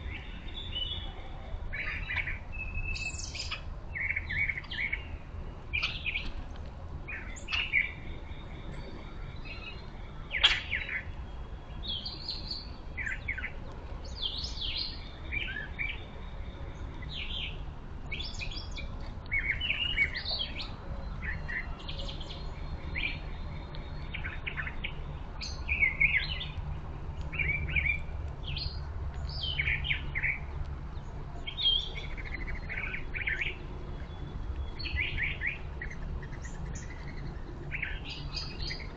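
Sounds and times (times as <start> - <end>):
birds chirping and calling: 0.0 - 38.9.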